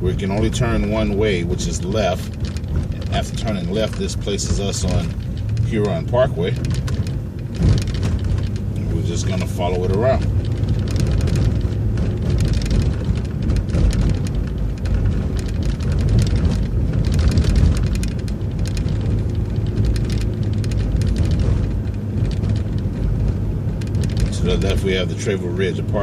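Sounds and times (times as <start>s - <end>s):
bus engine and road rumble: 0.0s - 26.0s
small rattling ticks: 1.2s - 25.0s.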